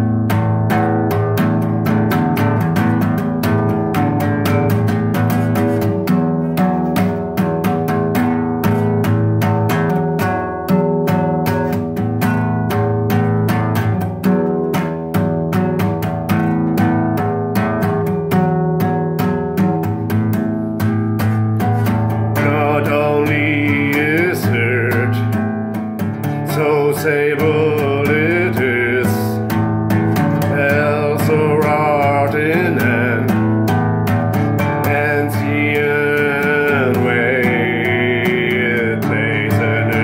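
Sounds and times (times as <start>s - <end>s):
held chords: 0.0s - 40.0s.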